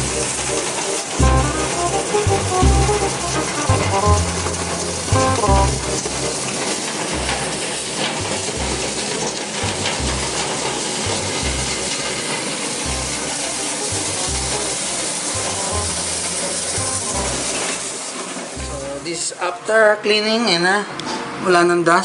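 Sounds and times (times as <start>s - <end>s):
music with pulsing bass beat: 0.0s - 17.8s, 18.6s - 19.0s
rushing air hiss: 0.0s - 19.4s.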